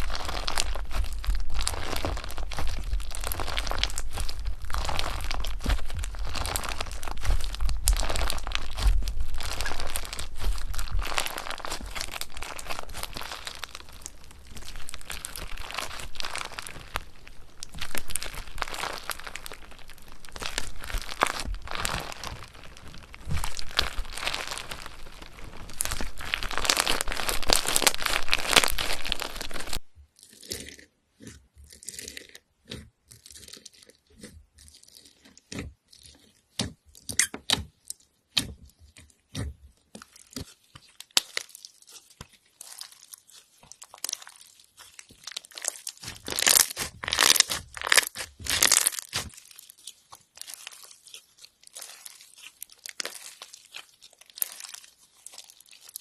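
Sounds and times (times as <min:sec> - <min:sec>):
slime crunchy crackling: 0:00.0 - 0:56.0.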